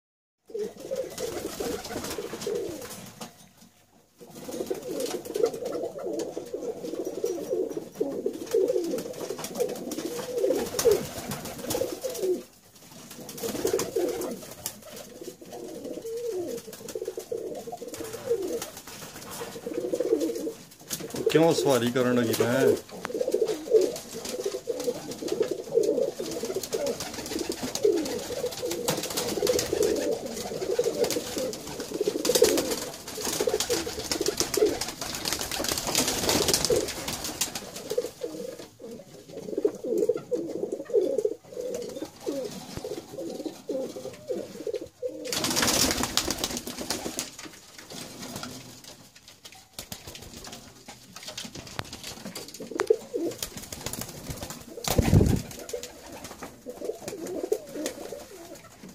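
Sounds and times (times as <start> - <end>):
pigeons cooing: 0.5 - 3.0, 4.2 - 12.5, 13.2 - 47.1, 52.2 - 58.9
wings flapping: 0.7 - 3.4, 8.2 - 38.7, 41.6 - 58.9.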